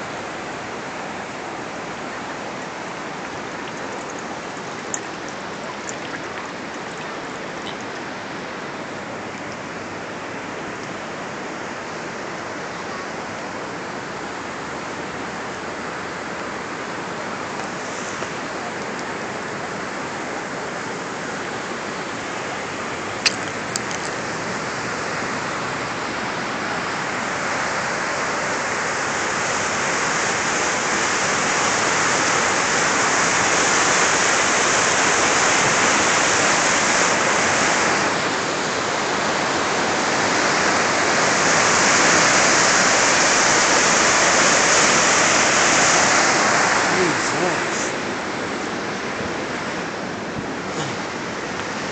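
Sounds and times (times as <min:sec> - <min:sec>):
floodwater rushing in rapids: 0:00.0 - 0:51.9.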